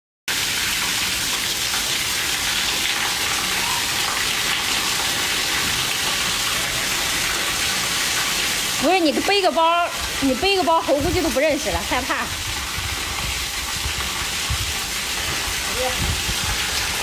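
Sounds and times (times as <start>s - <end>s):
steady rain falling: 0.3s - 17.0s.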